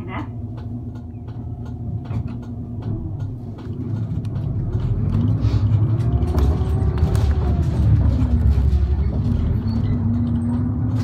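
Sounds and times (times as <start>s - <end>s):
bus engine accelerating: 0.0s - 11.0s
ticks and rattles: 0.4s - 11.0s.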